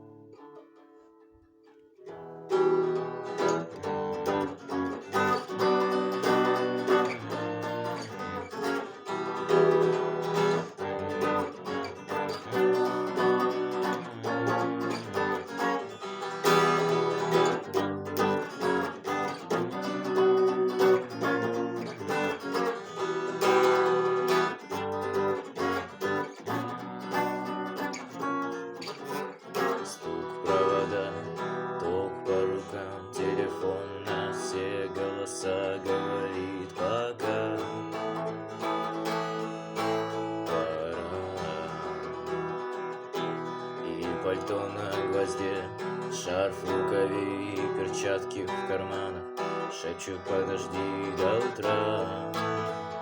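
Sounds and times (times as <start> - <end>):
electric guitar strumming chords: 2.1 - 53.0.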